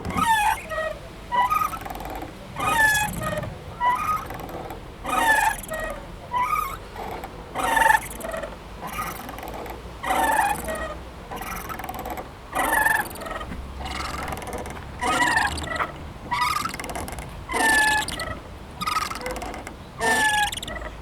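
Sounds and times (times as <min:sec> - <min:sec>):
swing squeaking: 0:00.0 - 0:21.0.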